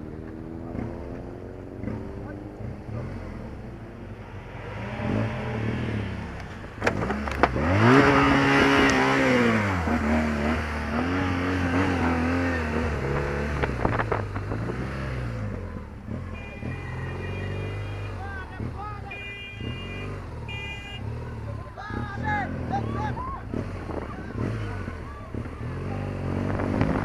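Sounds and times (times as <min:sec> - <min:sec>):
vehicle engine accelerating: 0:00.0 - 0:17.8, 0:21.1 - 0:27.0
wind and road noise: 0:00.0 - 0:27.0.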